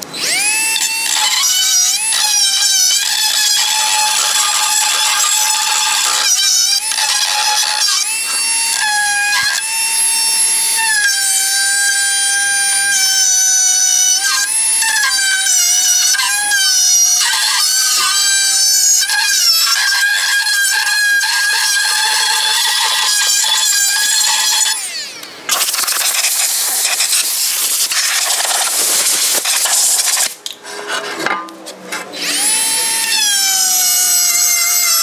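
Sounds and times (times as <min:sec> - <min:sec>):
power tool motor whining: 0:00.0 - 0:30.4, 0:32.2 - 0:35.0.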